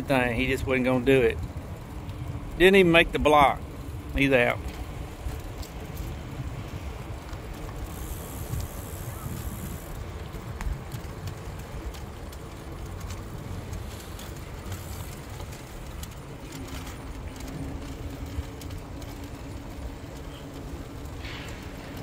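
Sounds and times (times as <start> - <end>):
bike tyres rolling rumble: 0.0 - 22.0
light clicks and rattles: 0.0 - 22.0.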